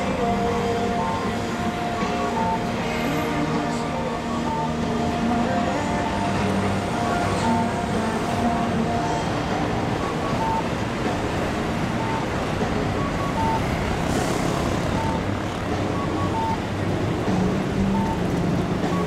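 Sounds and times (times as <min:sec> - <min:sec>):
city traffic: 0:00.0 - 0:19.0
electric train passing: 0:00.0 - 0:19.0.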